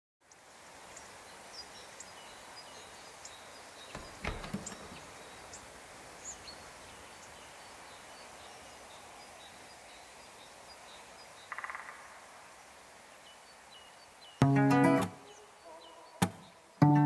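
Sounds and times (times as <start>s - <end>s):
background hiss: 0.2s - 17.0s.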